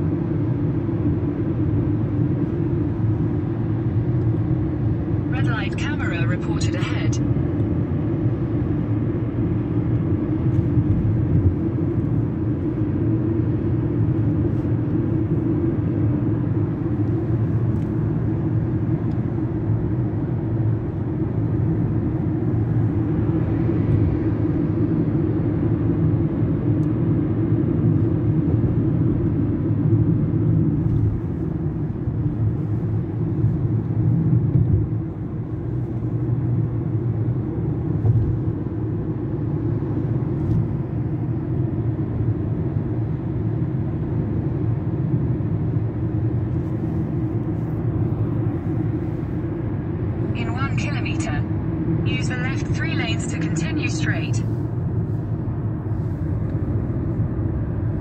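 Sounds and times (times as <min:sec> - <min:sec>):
car road noise drone: 0:00.0 - 0:58.0.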